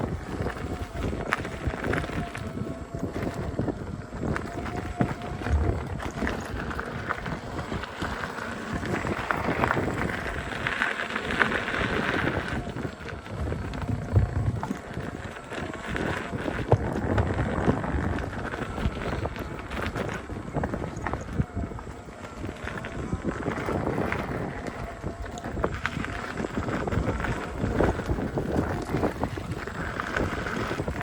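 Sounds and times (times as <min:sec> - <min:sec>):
faint steady whine: 0:00.0 - 0:31.0
tyre rolling noise: 0:00.0 - 0:31.0
wind on microphone: 0:00.0 - 0:31.0.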